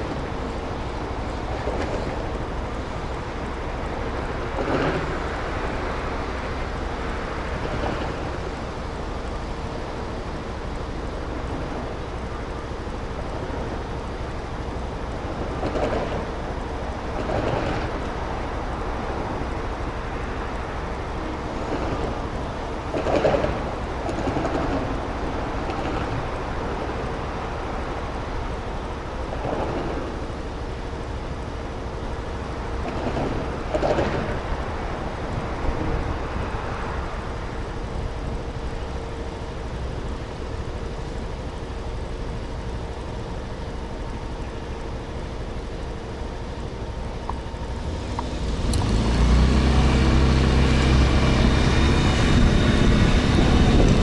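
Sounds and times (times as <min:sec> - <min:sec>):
faint constant tone: 0:00.0 - 0:48.8
traffic rumble and hum: 0:00.0 - 0:54.0
vehicles passing: 0:00.0 - 0:54.0.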